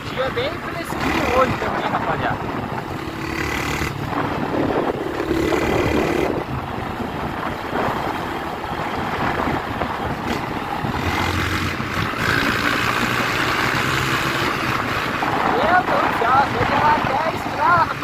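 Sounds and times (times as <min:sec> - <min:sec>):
motorcycle engine running: 0:00.0 - 0:18.0
wind rushing: 0:00.0 - 0:18.0.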